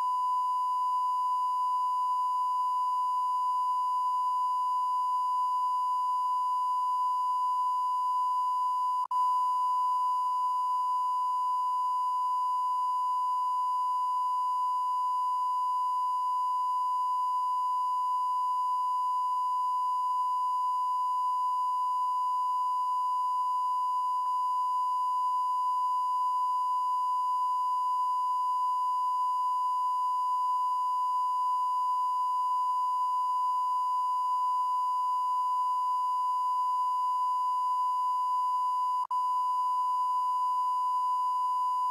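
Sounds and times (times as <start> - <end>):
continuous electronic beep tone: 0.0 - 41.9.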